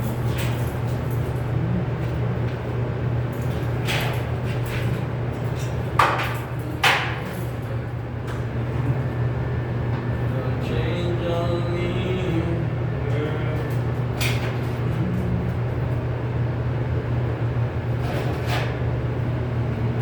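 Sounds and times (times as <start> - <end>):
low hum: 0.0 - 5.7, 6.3 - 17.9.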